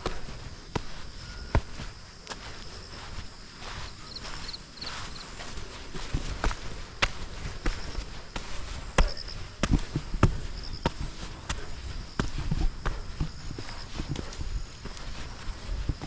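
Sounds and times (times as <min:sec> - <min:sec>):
footsteps on trail: 0:00.0 - 0:16.0.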